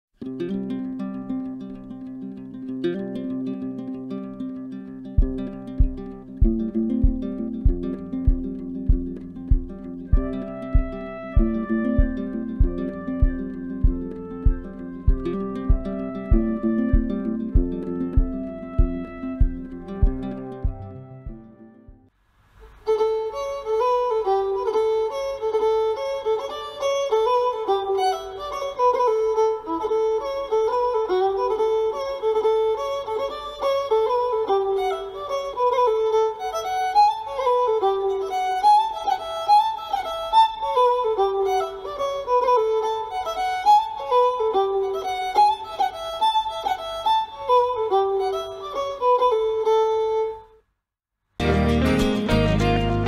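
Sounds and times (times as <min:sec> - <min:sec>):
solo fiddle melody: 0:00.2 - 0:22.0, 0:22.8 - 0:50.6, 0:51.4 - 0:53.0.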